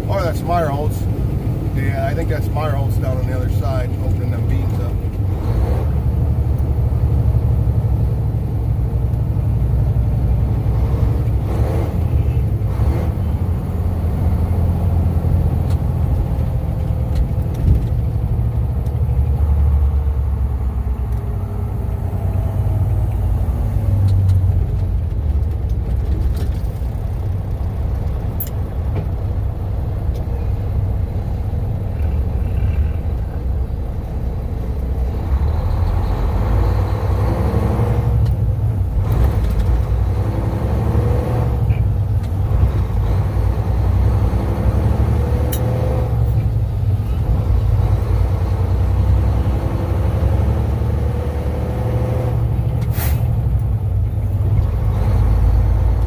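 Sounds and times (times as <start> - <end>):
road noise: 0.0 - 56.0
truck engine rumble: 0.0 - 56.0.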